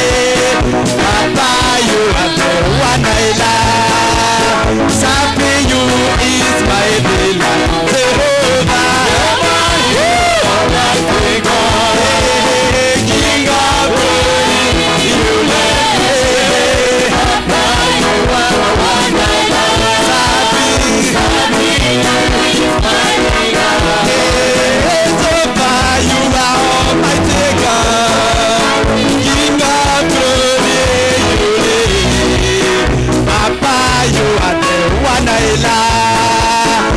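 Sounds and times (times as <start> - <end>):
band with steady drum beat: 0.0 - 36.9
singers on microphones: 0.0 - 36.9.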